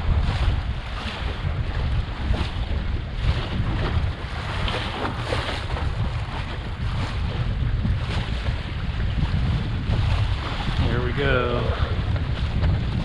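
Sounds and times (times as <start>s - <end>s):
water splashing along boat hull: 0.0s - 13.0s
wind buffeting microphone: 0.0s - 13.0s.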